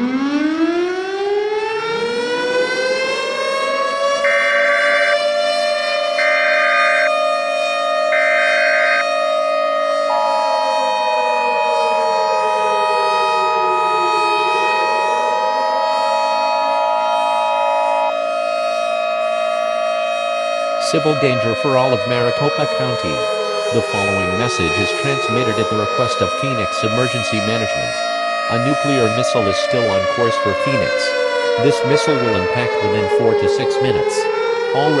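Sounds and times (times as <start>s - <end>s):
civil defense siren wailing: 0.0s - 35.0s.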